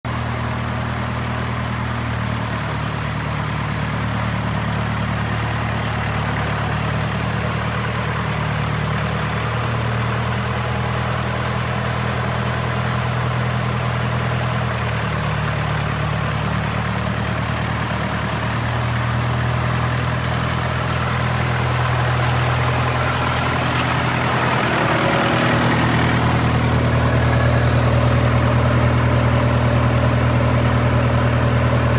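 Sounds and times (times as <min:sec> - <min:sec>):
tractor engine idling: 0:00.0 - 0:31.9.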